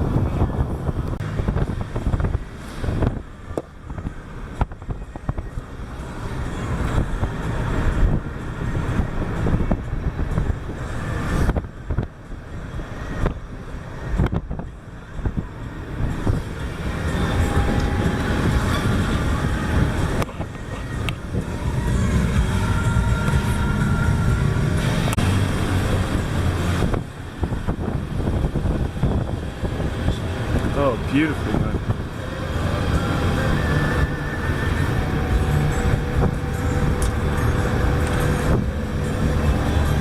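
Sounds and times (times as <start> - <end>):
car engine and road rumble: 0.0 - 40.0
wind buffeting microphone: 0.0 - 40.0.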